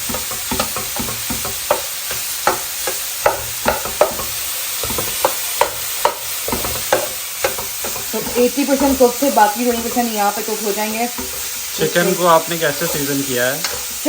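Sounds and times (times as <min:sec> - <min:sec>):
utensil scraping and tapping pan: 0:00.0 - 0:10.2, 0:11.1 - 0:14.0
food sizzling in a frying pan: 0:00.0 - 0:14.0.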